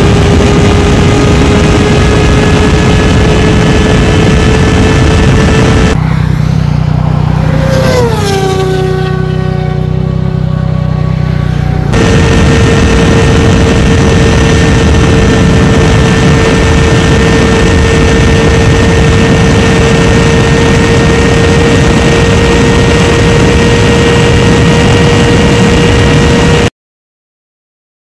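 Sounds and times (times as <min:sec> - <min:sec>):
wind noise on microphone: 0:00.0 - 0:06.0, 0:07.4 - 0:26.7
motorcycle engine at steady revs: 0:00.0 - 0:26.7.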